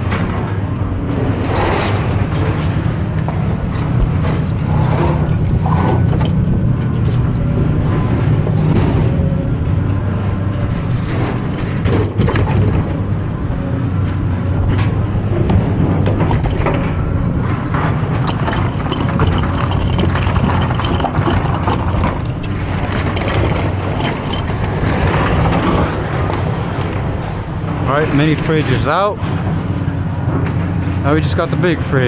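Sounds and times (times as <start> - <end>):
engine idling: 2.0 - 32.0.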